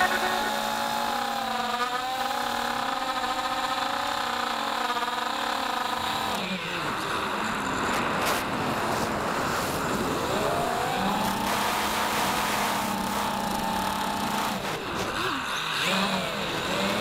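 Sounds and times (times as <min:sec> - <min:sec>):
drone motors humming: 0:00.0 - 0:08.1, 0:09.9 - 0:17.0.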